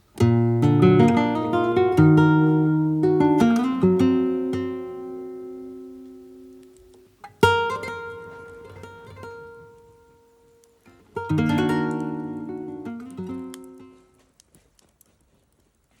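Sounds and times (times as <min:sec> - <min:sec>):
plucked acoustic guitar: 0:00.2 - 0:14.1.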